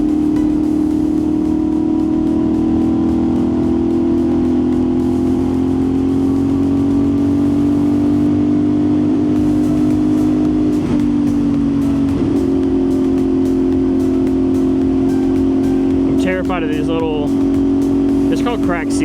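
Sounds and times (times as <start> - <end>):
motorcycle engine cruising: 0.0 - 19.0
wind and road rush: 0.0 - 19.0.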